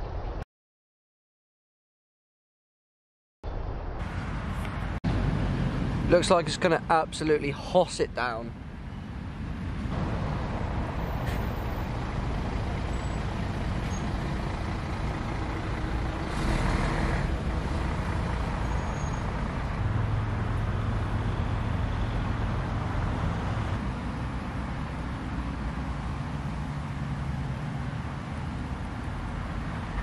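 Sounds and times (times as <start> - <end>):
traffic engine and tyre noise: 3.5 - 30.0
low engine hum: 4.0 - 30.0.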